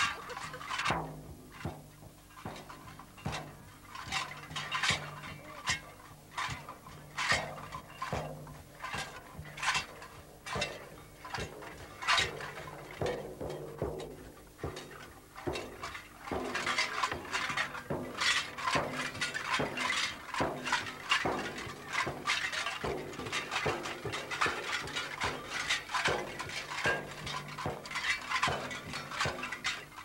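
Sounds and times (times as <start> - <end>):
frame drum beaten steadily: 0.0 - 30.0.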